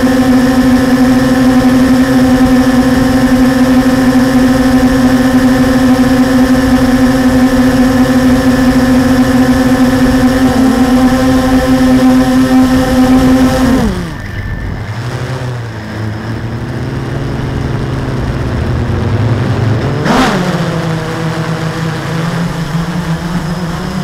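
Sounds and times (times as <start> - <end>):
quadcopter propellers buzzing: 0.0 - 24.0.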